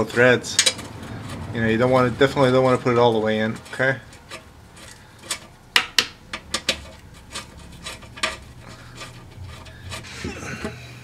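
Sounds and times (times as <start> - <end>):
light metal scraping: 0.0 - 11.0.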